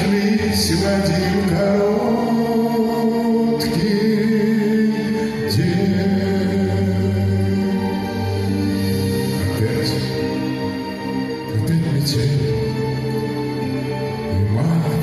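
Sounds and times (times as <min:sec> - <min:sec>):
slow ballad music: 0:00.0 - 0:15.0.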